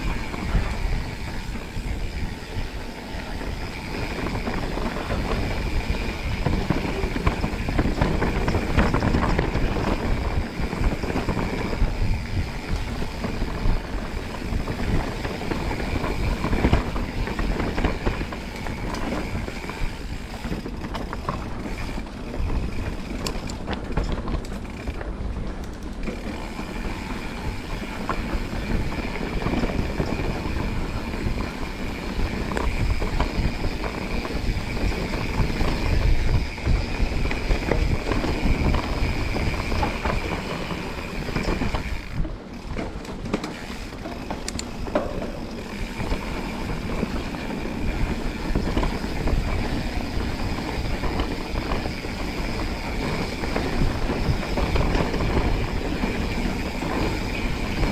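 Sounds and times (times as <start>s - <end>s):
bike rattling: 0.0s - 57.9s
tyres rumbling over dirt: 0.0s - 57.9s
wind rumble on microphone: 0.0s - 57.9s.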